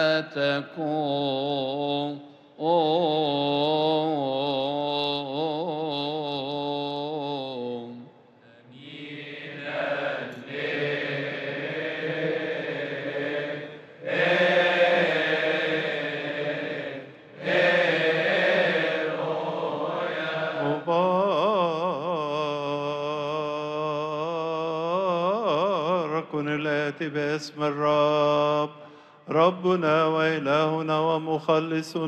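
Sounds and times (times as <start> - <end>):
choir chanting a hymn: 0.0 - 32.0.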